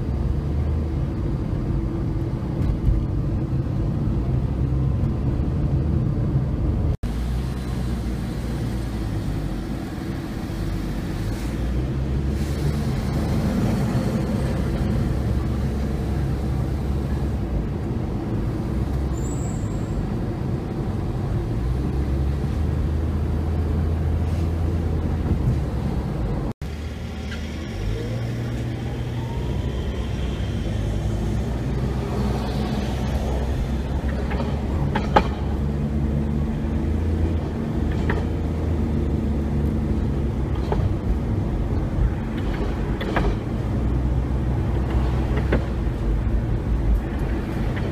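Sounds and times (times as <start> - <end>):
streetcar passing: 0.0 - 47.9
traffic rumble: 0.0 - 47.9.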